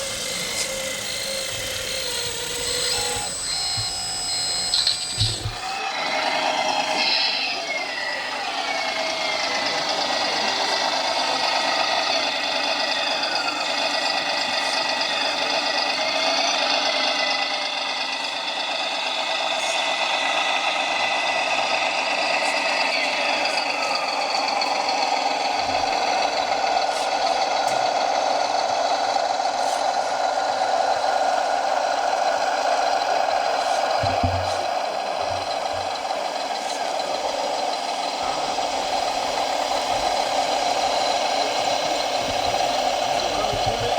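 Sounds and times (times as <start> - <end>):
model truck motor whining: 0.0 - 43.9.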